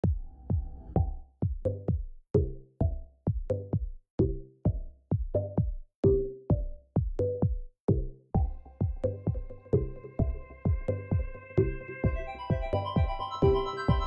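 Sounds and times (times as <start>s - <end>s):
music with electronic drum beat: 0.0s - 14.0s.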